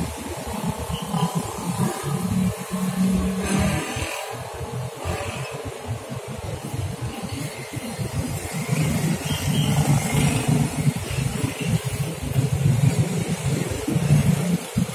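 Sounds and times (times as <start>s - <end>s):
motorcycle engines passing: 0.0s - 14.9s.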